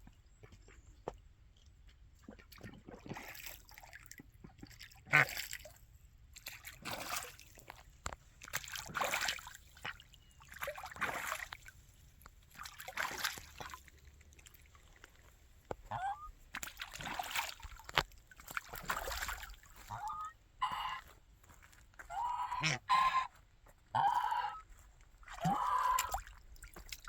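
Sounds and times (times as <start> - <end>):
waterfowl splashing in water: 0.0 - 21.2, 21.8 - 23.3, 23.9 - 27.0.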